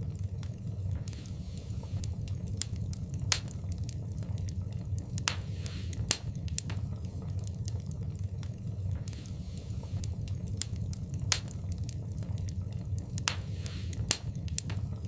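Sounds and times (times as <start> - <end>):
fire flames rumbling: 0.0 - 15.0
wood fire crackling and popping: 0.0 - 15.0.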